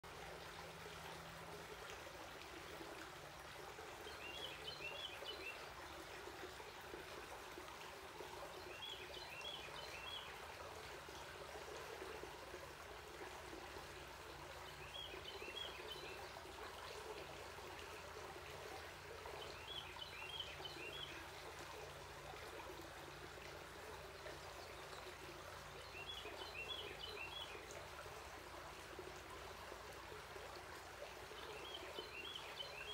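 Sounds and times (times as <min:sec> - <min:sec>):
stream running over rocks: 0:00.0 - 0:32.9.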